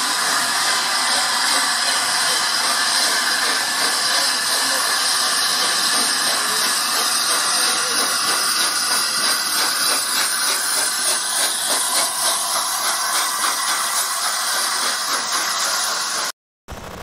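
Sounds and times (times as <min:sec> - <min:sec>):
steady hiss of steam: 0:00.0 - 0:16.3
steam locomotive passing: 0:00.0 - 0:16.3.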